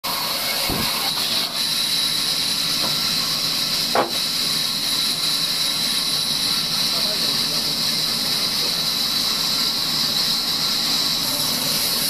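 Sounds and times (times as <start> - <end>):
band saw cutting timber: 0.0 - 12.0.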